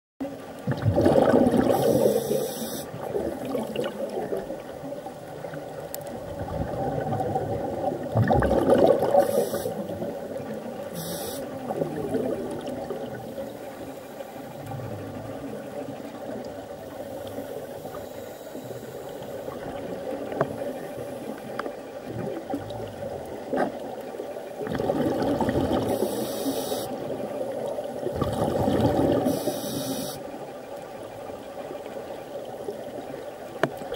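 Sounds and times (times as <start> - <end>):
underwater rush of water: 0.2 - 33.9.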